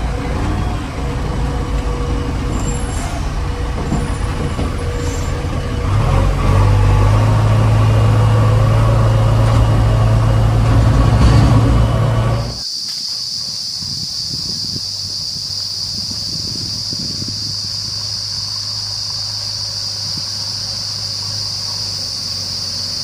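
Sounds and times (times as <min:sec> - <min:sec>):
diesel engine running: 0:00.0 - 0:12.6, 0:15.8 - 0:23.0.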